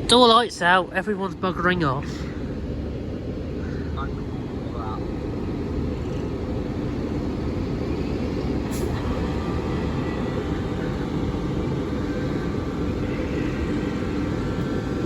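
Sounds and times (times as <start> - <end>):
electric train rumble: 0.0 - 15.0
traction motor whine: 2.4 - 15.0.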